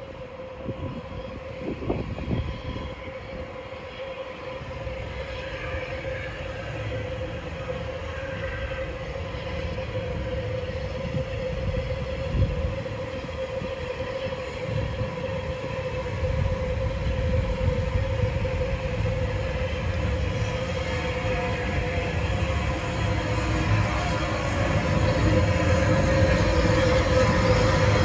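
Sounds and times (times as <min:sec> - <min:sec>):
steam locomotive rumbling: 0:00.0 - 0:28.0.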